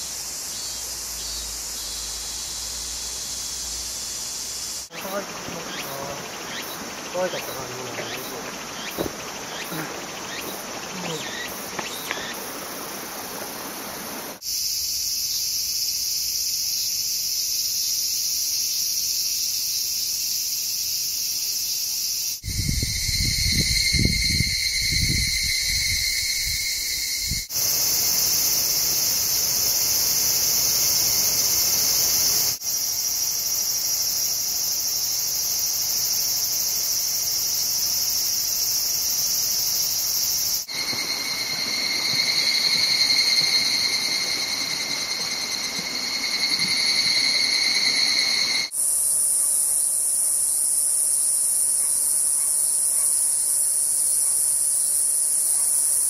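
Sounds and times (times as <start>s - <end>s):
cicadas buzzing: 0.0s - 56.0s.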